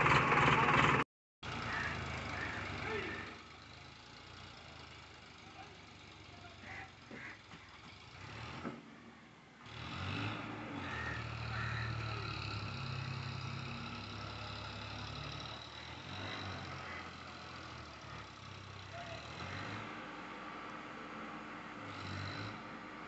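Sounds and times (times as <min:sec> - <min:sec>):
tractor diesel engine running: 0:00.0 - 0:08.6, 0:10.6 - 0:23.0.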